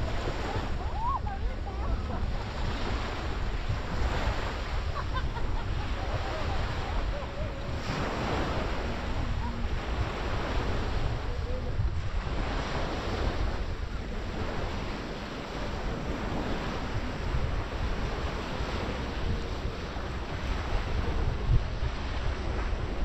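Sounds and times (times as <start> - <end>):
waves washing up on beach: 0.0 - 23.0
wind rumbling on microphone: 0.0 - 23.0.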